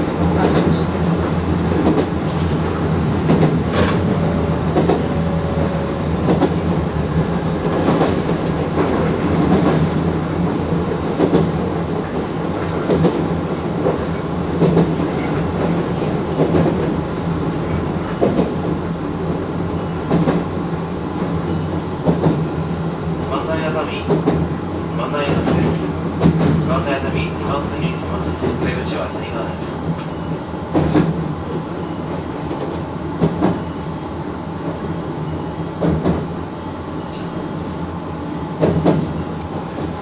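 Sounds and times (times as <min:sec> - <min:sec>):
rail joints clacking: 0:00.0 - 0:33.8, 0:34.6 - 0:37.6, 0:38.2 - 0:40.0
electric train running hum: 0:00.0 - 0:40.0.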